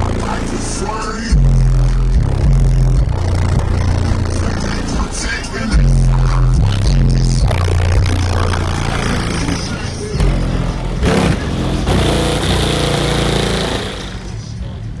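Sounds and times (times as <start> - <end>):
bass-heavy music from car stereo: 0.0 - 15.0
vehicle noise: 0.0 - 15.0.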